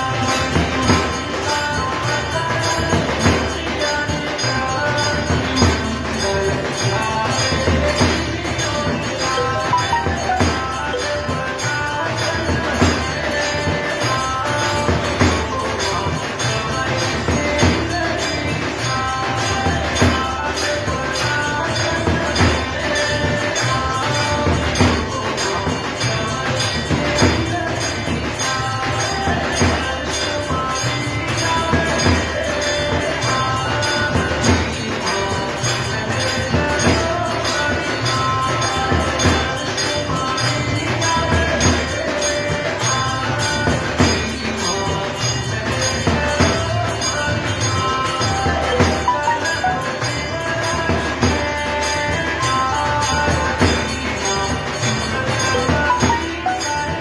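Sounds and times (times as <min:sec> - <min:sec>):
devotional music with beat: 0:00.0 - 0:57.0
jingling percussion: 0:00.0 - 0:57.0.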